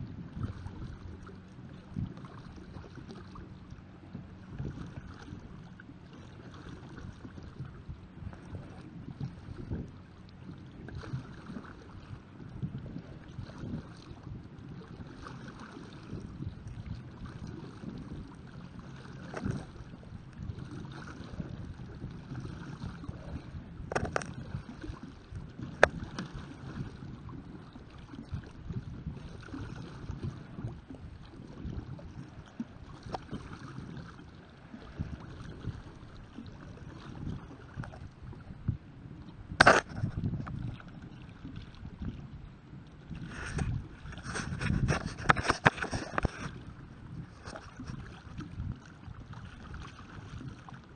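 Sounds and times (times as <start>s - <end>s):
paddle blades splashing water: 0.0s - 50.9s.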